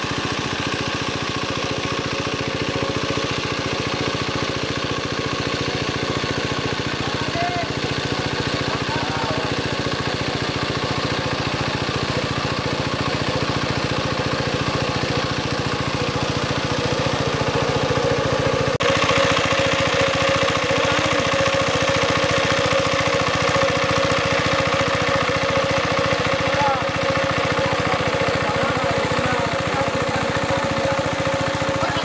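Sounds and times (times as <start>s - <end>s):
water pump engine running: 0.0s - 32.0s.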